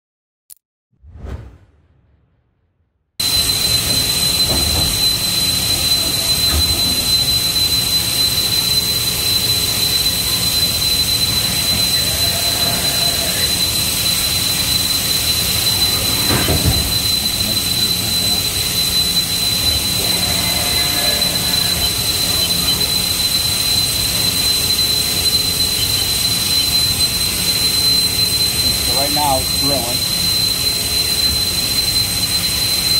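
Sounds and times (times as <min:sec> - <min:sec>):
high-pitched machine whine: 0:03.2 - 0:32.9.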